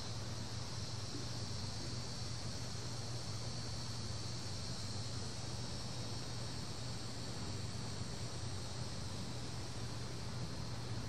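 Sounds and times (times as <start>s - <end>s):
cicadas buzzing: 0.0s - 11.0s
constant low hum: 0.0s - 11.0s.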